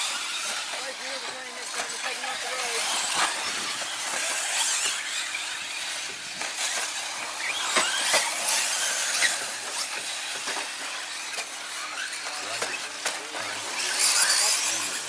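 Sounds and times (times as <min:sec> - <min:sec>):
electric rc truck motors whining: 0:00.0 - 0:15.0
tyres hissing on dirt: 0:00.0 - 0:15.0.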